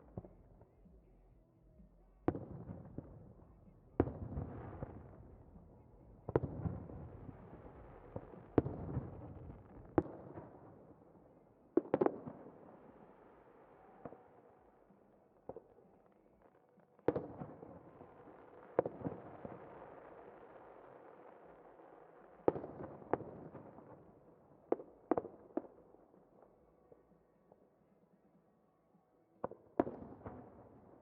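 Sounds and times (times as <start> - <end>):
fireworks rumble and crackle: 0.0 - 28.4, 29.4 - 31.0.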